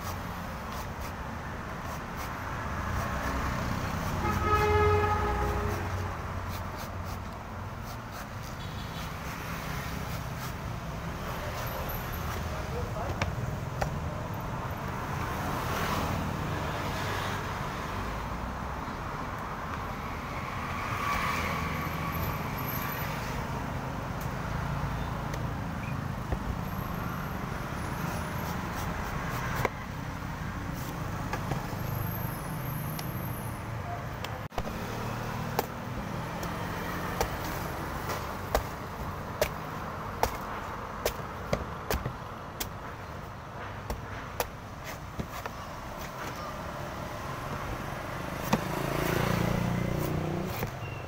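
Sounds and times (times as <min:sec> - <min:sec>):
road traffic: 0:00.0 - 0:51.0.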